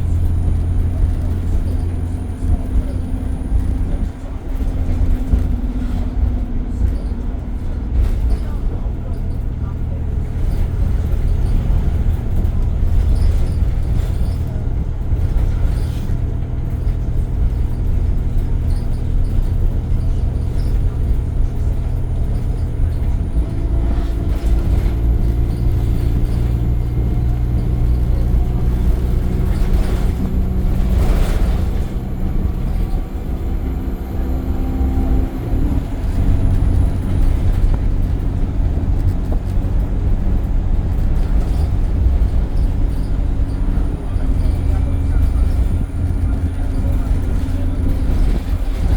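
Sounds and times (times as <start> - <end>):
bus engine running: 0.0 - 48.9.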